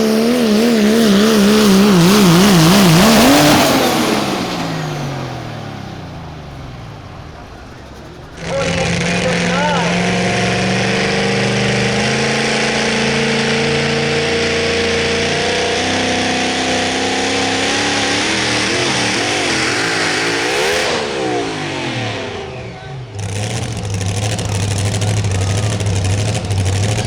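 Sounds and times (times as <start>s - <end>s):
pulling engine revving: 0.0s - 27.0s.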